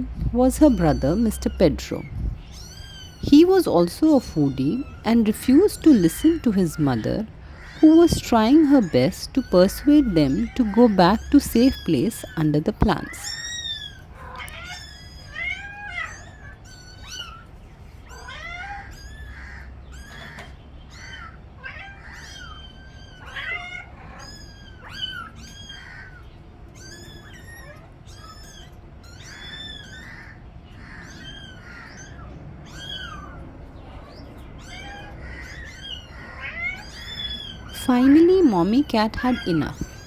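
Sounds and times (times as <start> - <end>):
kittens meowing: 0.0 - 40.0.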